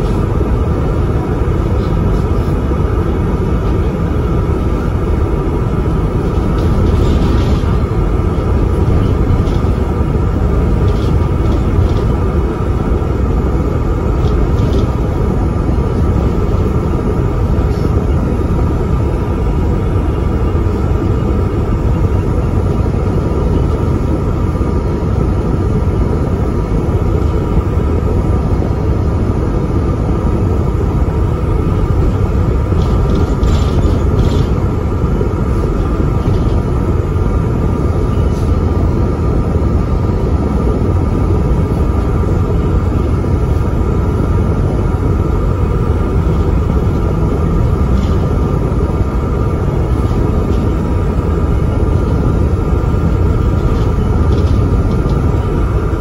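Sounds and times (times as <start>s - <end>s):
bus engine and road rumble: 0.0s - 56.0s
steady whine: 0.0s - 56.0s.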